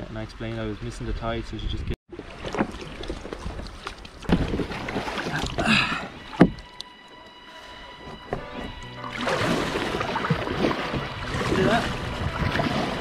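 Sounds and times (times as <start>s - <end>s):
paddle splashes: 2.1s - 13.0s
water washing against hull: 2.1s - 13.0s.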